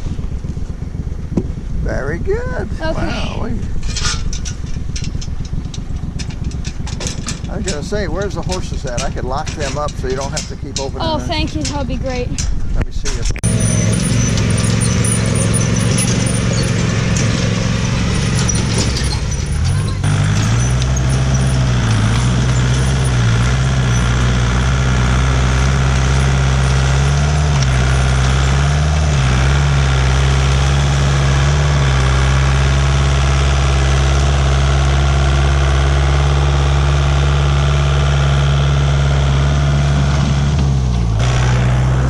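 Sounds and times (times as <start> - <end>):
large engine running: 0.0 - 42.0.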